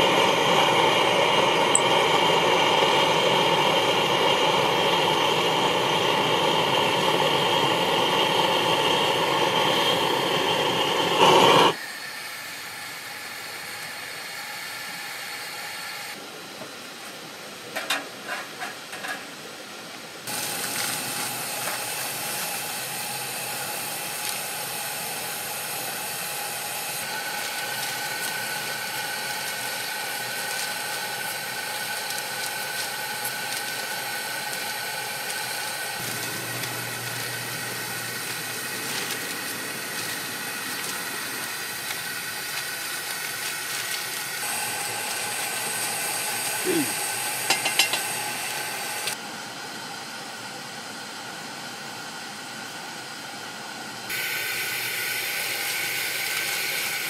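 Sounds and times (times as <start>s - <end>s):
gas burner flame hissing: 0.0s - 16.7s, 20.2s - 53.4s, 54.0s - 57.0s.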